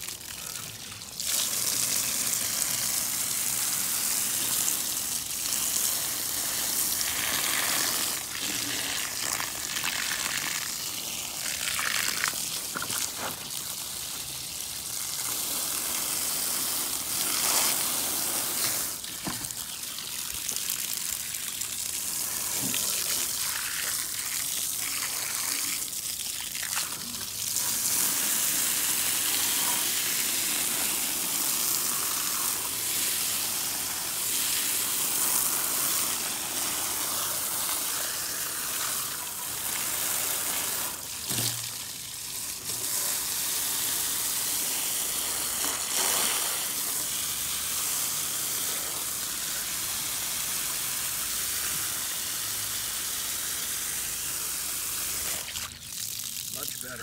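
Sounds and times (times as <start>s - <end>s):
hose water spraying on metal fins: 0.0s - 57.0s.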